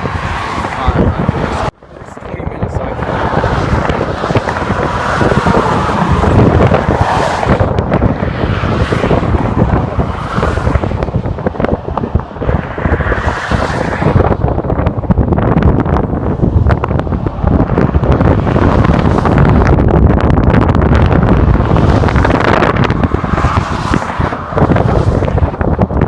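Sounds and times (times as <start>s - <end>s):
road traffic passing: 0.0s - 26.0s
wind buffeting microphone: 0.0s - 26.0s.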